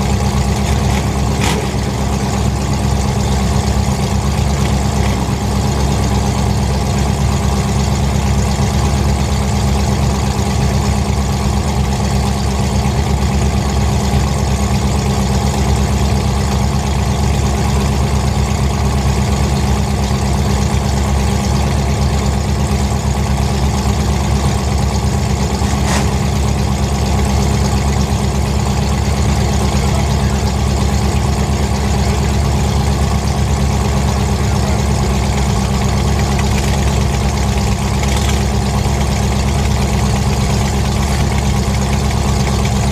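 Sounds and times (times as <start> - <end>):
car engines idling: 0.0 - 42.9.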